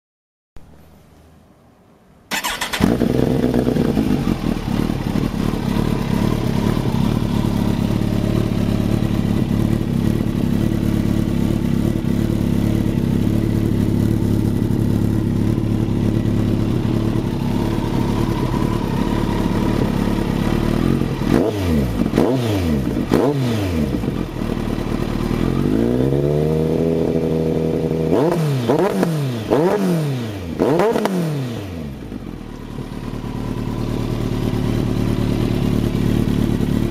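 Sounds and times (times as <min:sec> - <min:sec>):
motorcycle engine starting and idling: 0:02.3 - 0:36.9.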